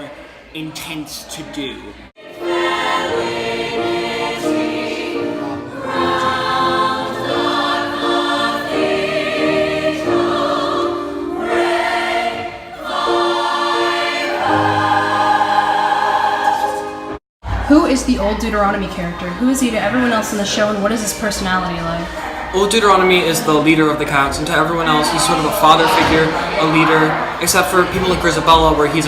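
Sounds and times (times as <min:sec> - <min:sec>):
choir singing: 0:01.2 - 0:17.7, 0:18.8 - 0:29.0.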